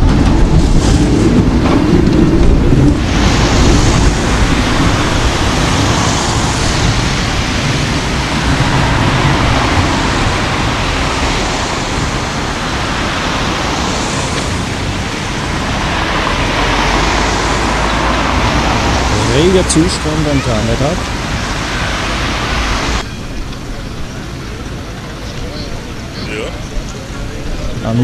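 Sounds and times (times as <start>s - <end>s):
street traffic hiss: 0.0s - 28.0s
tram rumbling: 0.0s - 28.0s.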